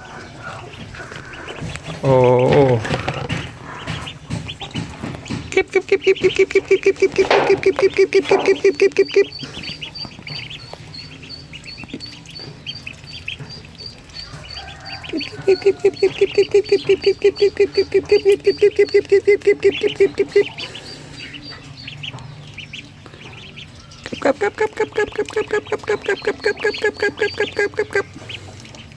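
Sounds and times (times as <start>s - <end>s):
ducklings peeping: 0.0s - 28.9s.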